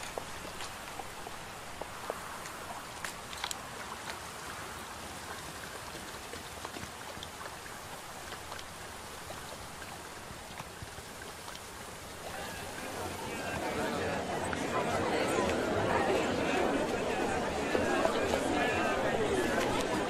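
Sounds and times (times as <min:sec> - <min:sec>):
faint drips and splashes: 0:00.0 - 0:20.0
stream water running: 0:00.0 - 0:20.0.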